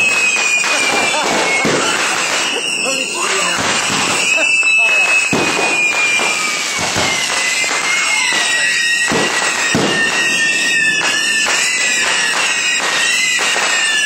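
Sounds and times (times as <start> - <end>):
fireworks bangs and crackling: 0.0 - 14.0
high descending whistle: 0.0 - 14.0.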